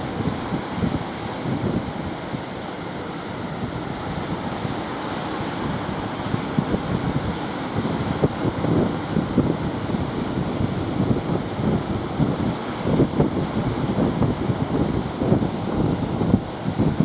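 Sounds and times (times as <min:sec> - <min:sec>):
surf breaking on sandy beach: 0:00.0 - 0:17.0
wind gusting on microphone: 0:00.0 - 0:17.0.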